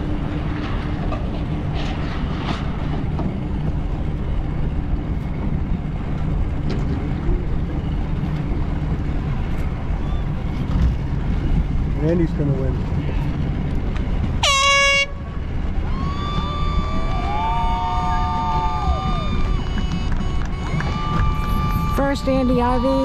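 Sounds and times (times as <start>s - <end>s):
boat motor running: 0.0s - 23.0s
wind rumble on microphone: 0.0s - 23.0s.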